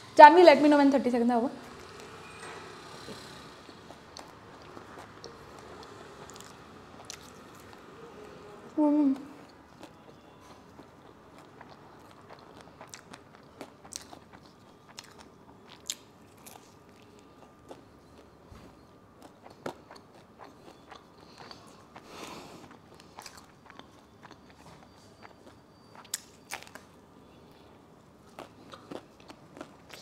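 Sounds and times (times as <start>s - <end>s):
chewing pizza: 3.2s - 30.0s.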